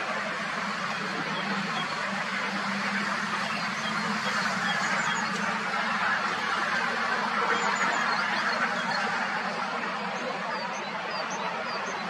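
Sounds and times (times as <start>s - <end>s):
outdoor noise: 0.0s - 12.0s.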